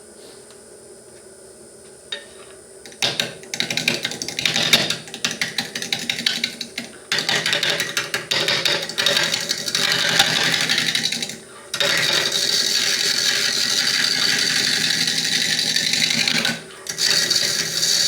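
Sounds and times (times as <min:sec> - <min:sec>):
gouge chattering on spinning wood: 0:02.8 - 0:18.0
wood lathe running: 0:02.8 - 0:18.0.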